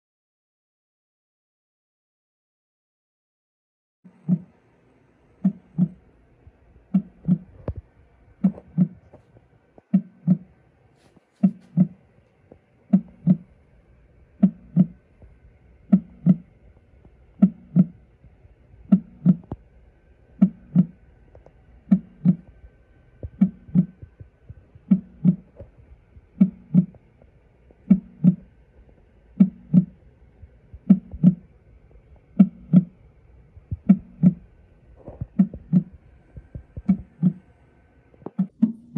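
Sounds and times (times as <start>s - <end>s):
heartbeat from small speaker: 4.1s - 4.6s, 5.4s - 10.6s, 11.4s - 13.6s, 14.3s - 37.6s, 38.2s - 38.9s.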